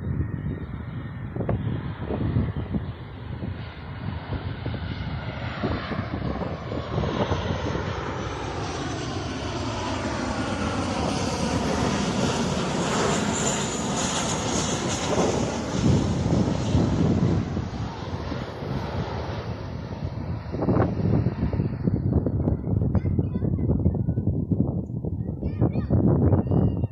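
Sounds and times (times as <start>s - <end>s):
airplane flying past: 0.0s - 24.8s.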